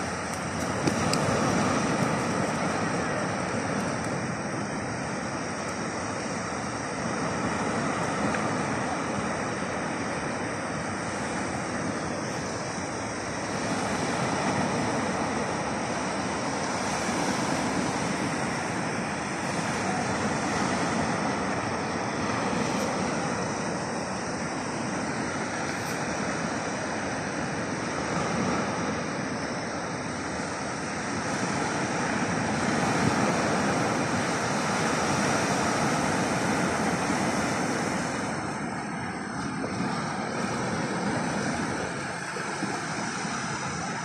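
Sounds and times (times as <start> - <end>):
surf breaking on a beach: 0.0 - 44.0.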